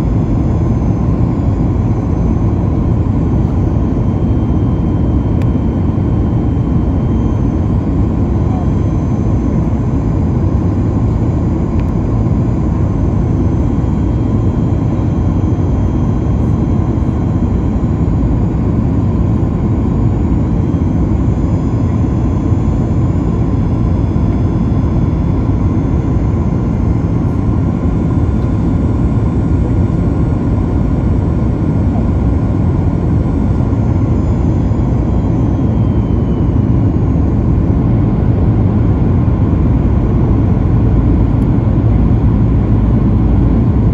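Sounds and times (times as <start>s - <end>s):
airflow rush in aircraft cabin: 0.0s - 43.9s
faint high whine tones: 0.0s - 43.9s
jet engines humming: 0.0s - 43.9s.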